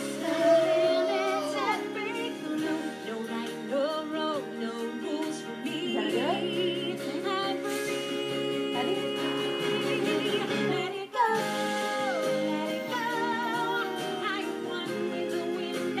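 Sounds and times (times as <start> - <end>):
instrumental backing: 0.0 - 16.0
woman singing with vibrato: 0.0 - 16.0.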